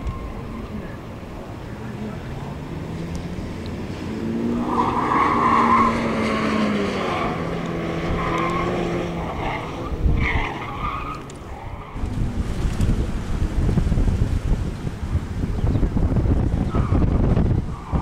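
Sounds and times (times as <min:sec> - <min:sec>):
car engine pulling hard: 0:00.0 - 0:18.0
wind gusts on microphone: 0:00.0 - 0:18.0.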